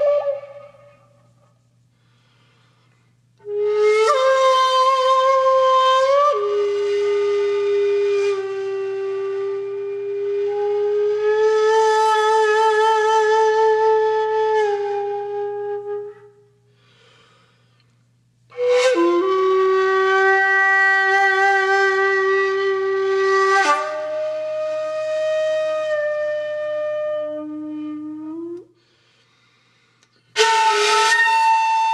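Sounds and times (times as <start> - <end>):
solo flute-like instrument: 0.0 - 1.7, 3.4 - 16.7, 18.5 - 28.8, 30.3 - 31.9.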